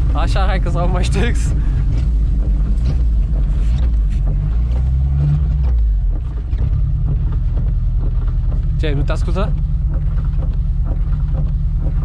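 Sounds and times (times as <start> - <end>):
car body knocks and rattles: 0.0 - 12.0
car engine running under load: 0.0 - 12.0.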